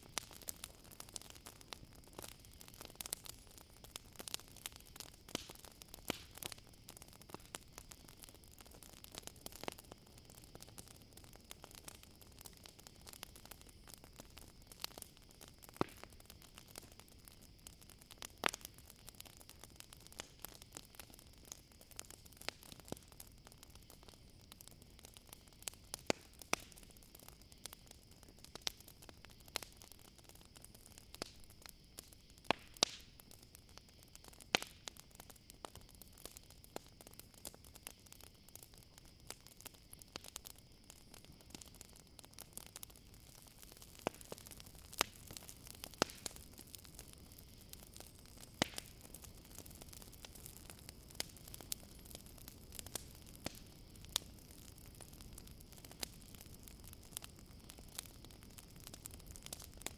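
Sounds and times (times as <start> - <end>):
campfire crackling: 0.0 - 59.9
crickets chirring: 0.0 - 59.9.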